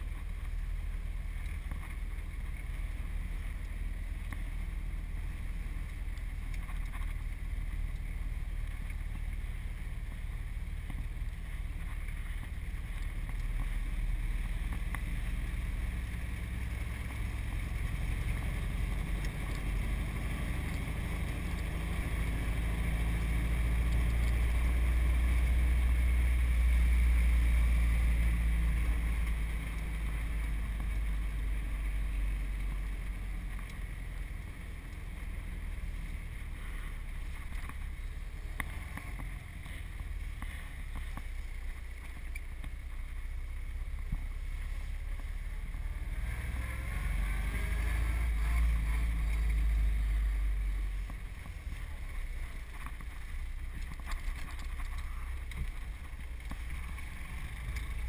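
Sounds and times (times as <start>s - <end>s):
car engine running: 0.0s - 58.0s
road and wind noise: 0.0s - 58.0s.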